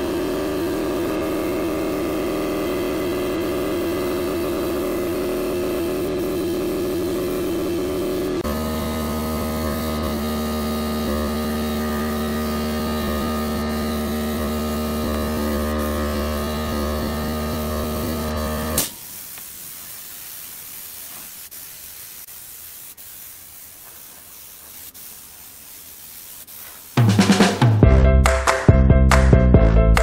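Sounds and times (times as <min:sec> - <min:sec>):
spray gun hissing: 0:00.0 - 0:27.8
air compressor motor humming: 0:00.0 - 0:27.9.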